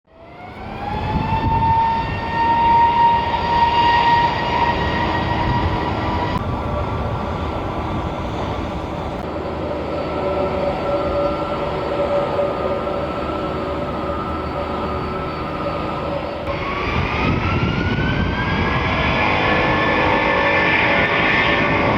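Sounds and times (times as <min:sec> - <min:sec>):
jet engine whine: 0:00.1 - 0:21.9
jet engine roar: 0:00.2 - 0:21.9.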